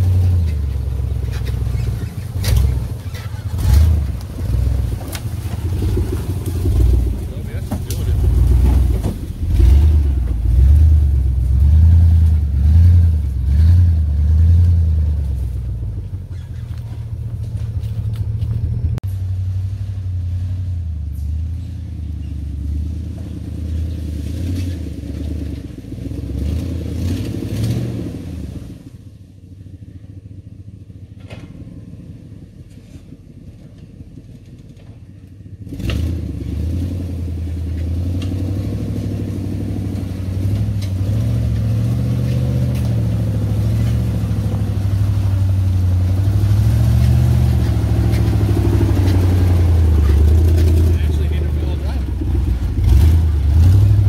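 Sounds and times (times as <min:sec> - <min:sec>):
pickup truck engine running: 0:00.0 - 0:54.0.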